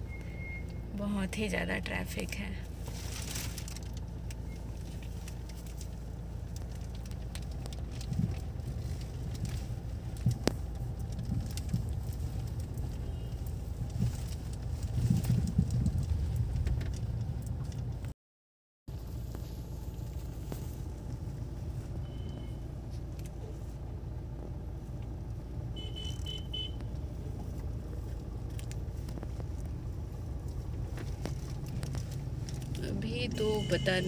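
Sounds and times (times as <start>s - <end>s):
traffic rumble inside car: 0.0s - 18.2s, 18.9s - 34.0s.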